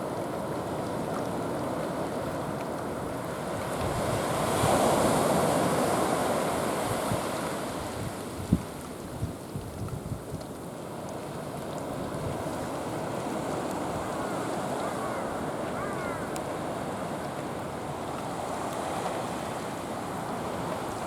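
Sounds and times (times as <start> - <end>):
sea waves washing in: 0.0 - 9.5, 10.3 - 21.0.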